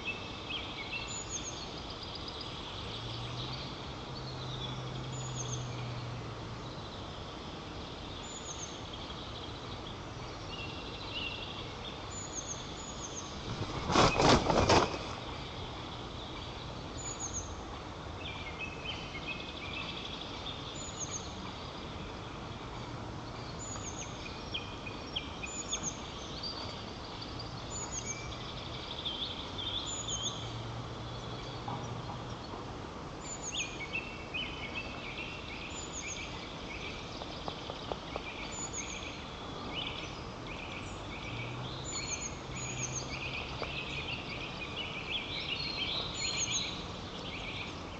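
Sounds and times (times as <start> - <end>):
songbirds singing: 0.0 - 47.9
steady background hiss: 0.0 - 47.9.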